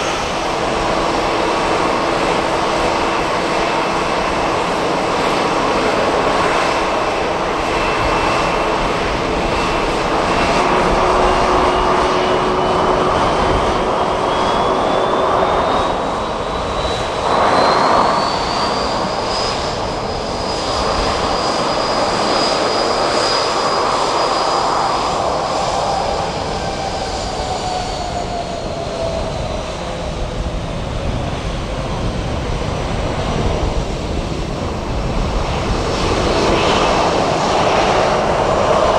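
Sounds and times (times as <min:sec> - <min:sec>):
jet engine rumble with whine: 0:00.0 - 0:38.9.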